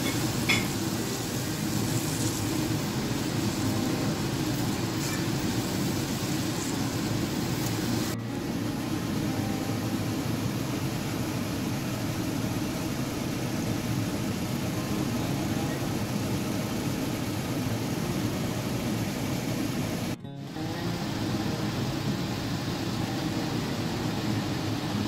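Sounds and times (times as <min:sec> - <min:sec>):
liquid boiling hard in a skillet: 0:00.0 - 0:08.2, 0:10.0 - 0:25.0.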